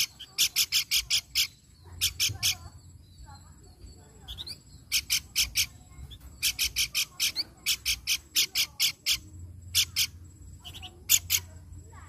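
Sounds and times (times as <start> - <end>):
bird calling with raspy notes: 0.0 - 12.0.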